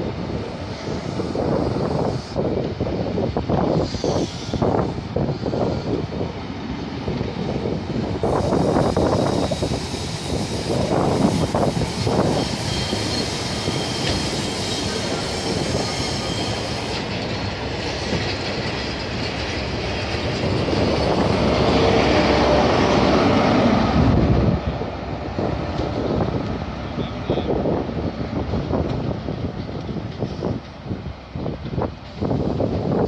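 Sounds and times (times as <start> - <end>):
diesel locomotive passing: 0.0 - 33.0
train coaches rolling on rails: 0.0 - 33.0.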